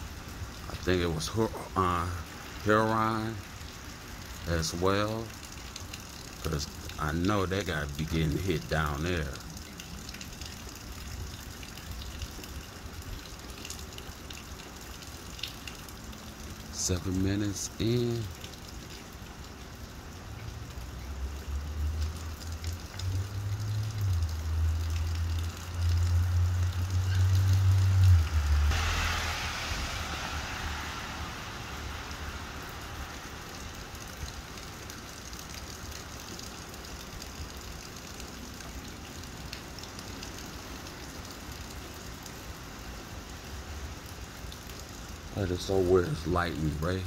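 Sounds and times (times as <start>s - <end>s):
tyres hissing on wet road: 0.0s - 11.6s, 12.2s - 47.0s
steady rain: 0.0s - 47.0s.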